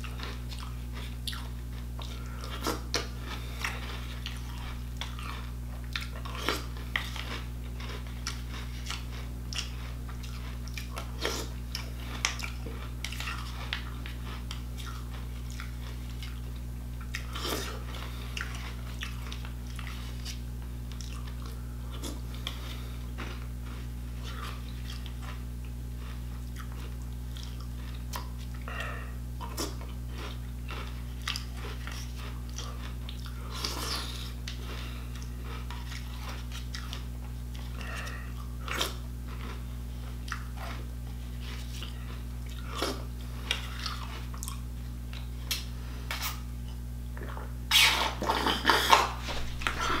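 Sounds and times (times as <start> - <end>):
person chewing cereal: 0.0 - 50.0.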